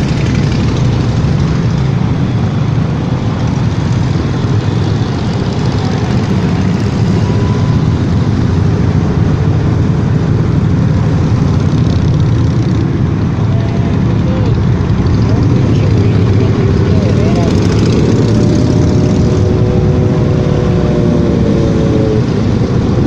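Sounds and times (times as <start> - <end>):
motorcycle engines droning: 0.0 - 23.0.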